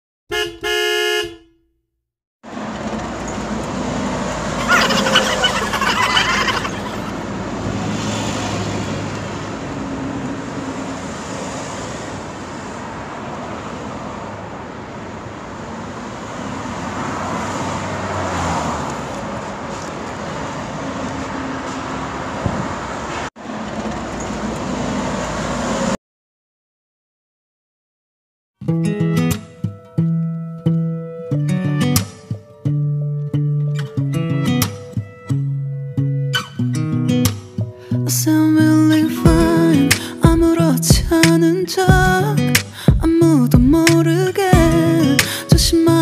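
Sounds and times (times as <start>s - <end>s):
road traffic rumble: 2.4s - 26.0s, 31.2s - 46.0s.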